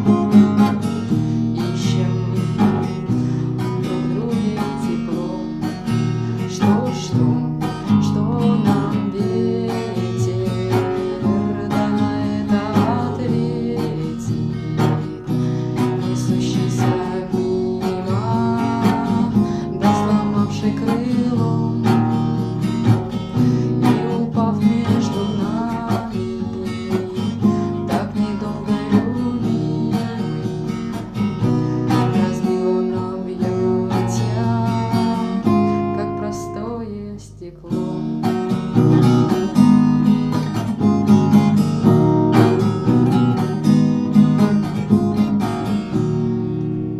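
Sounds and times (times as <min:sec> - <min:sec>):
song with strummed acoustic guitar: 0:00.0 - 0:46.9.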